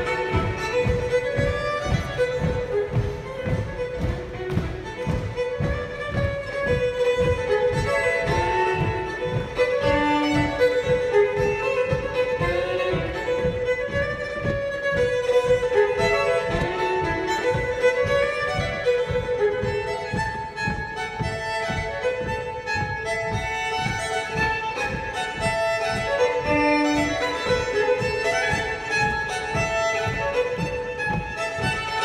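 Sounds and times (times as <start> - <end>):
low thump keeping time: 0.0 - 32.0
solo fiddle dance tune: 0.0 - 32.0.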